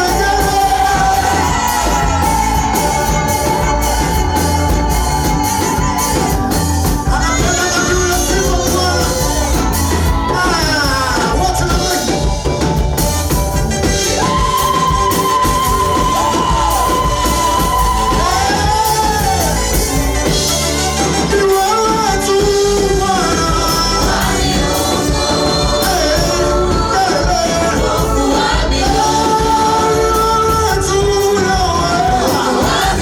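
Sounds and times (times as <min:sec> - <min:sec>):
drums and band accompaniment: 0:00.0 - 0:33.0
group singing gospel: 0:00.0 - 0:33.0.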